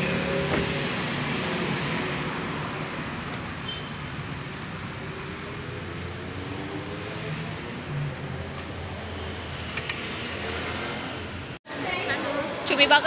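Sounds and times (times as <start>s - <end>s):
steady roadway hum: 0.0s - 13.0s.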